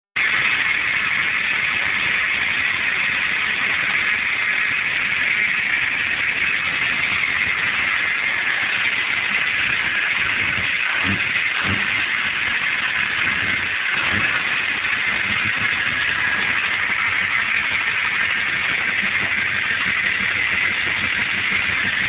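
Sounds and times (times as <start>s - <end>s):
car engine idling: 0.2s - 22.0s
steady hiss: 0.2s - 22.0s.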